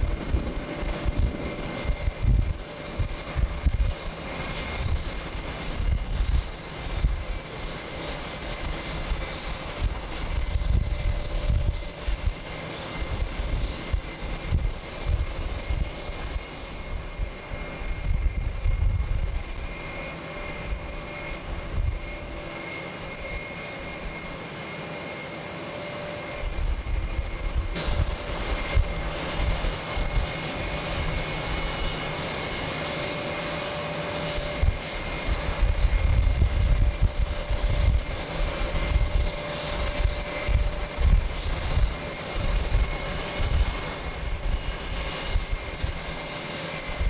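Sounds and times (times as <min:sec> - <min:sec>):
wind rumbling on microphone: 0:00.0 - 0:24.3, 0:26.2 - 0:47.0
jet engines whining: 0:00.0 - 0:47.0.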